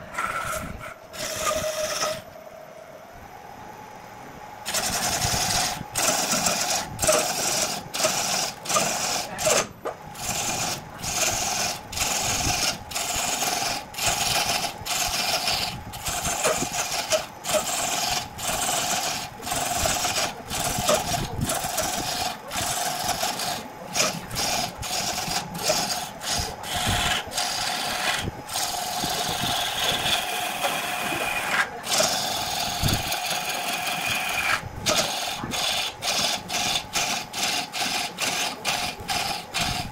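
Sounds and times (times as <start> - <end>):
wood lathe humming: 0.0 - 2.4, 4.7 - 39.9.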